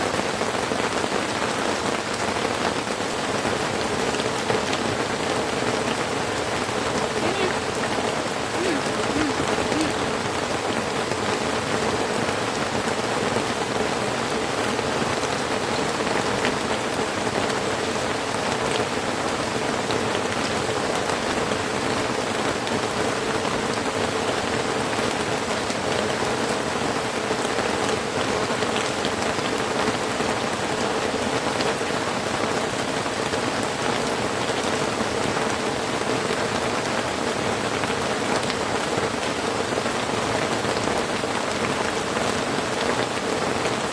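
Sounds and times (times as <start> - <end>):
heavy rain on hut: 0.0 - 43.9.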